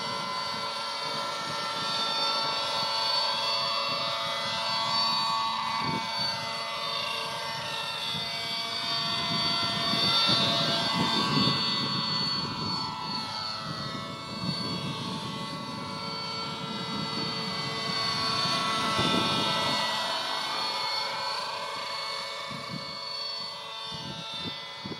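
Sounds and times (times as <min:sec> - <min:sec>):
model helicopter engine buzzing: 0:00.0 - 0:24.9.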